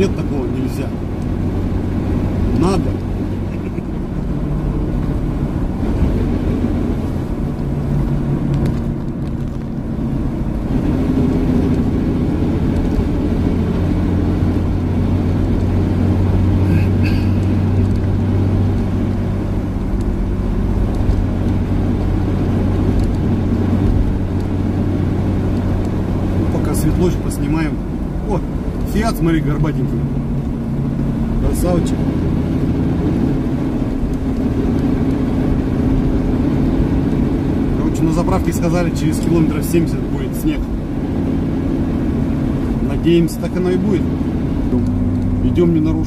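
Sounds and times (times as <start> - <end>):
car engine droning: 0.0 - 46.0
road noise: 0.0 - 46.0.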